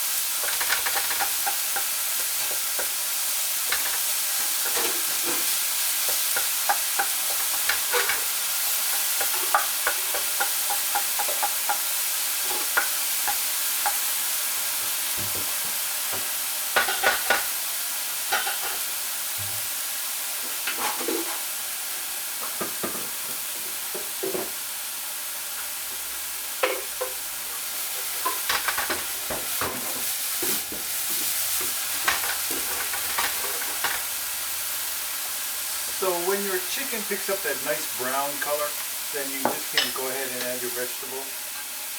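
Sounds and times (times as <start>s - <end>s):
chicken sizzling in a pan: 0.0s - 41.9s.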